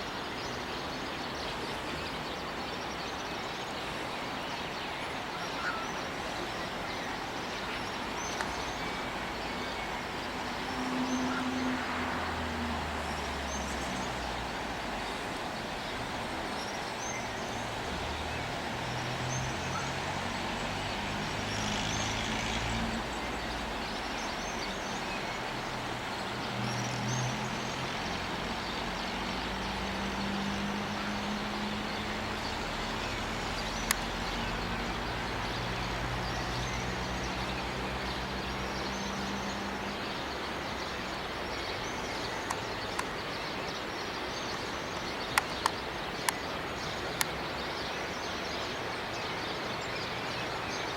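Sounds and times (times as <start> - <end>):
passing road vehicles: 5.2 - 50.9.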